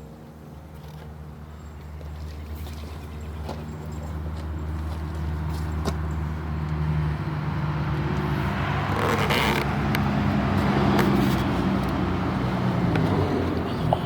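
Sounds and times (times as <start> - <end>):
road noise: 0.0 - 14.0
vehicle engine running: 0.0 - 14.0.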